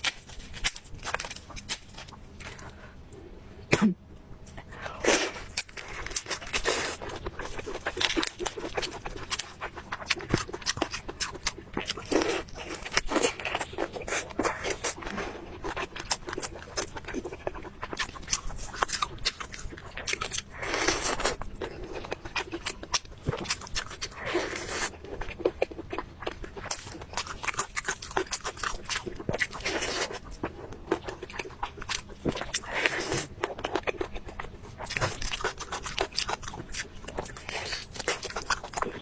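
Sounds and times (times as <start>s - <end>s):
person chewing and crunching food: 0.0s - 3.2s, 3.8s - 39.0s.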